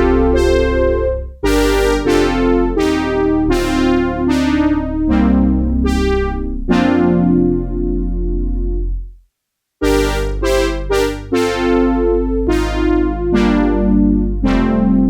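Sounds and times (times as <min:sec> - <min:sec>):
synthesizer playing chords: 0:00.0 - 0:09.1, 0:09.8 - 0:15.0.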